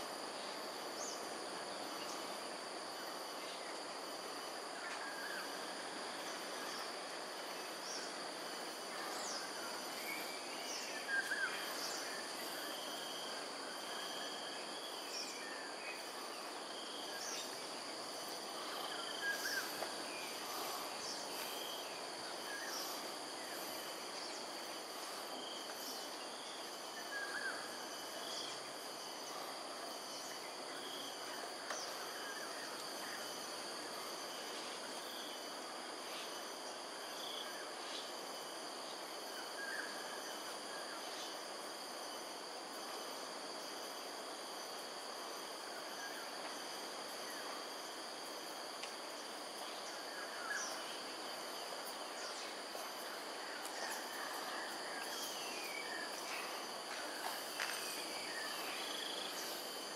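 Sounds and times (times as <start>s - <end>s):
high-pitched insect drone: 0.3s - 59.9s.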